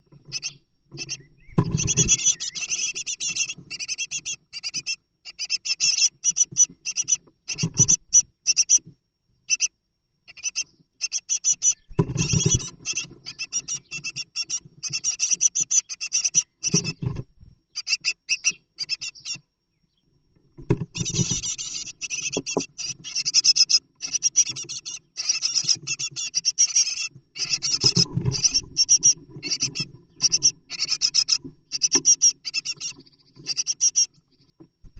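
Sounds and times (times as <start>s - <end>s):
birds scratching in nest box: 0.1s - 8.8s, 11.4s - 18.0s, 20.7s - 34.1s.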